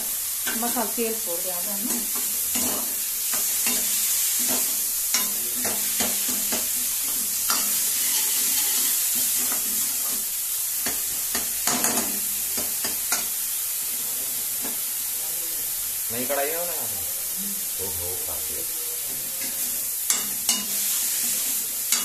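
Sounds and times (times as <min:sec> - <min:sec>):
masala sizzling in oil: 0:00.0 - 0:22.0.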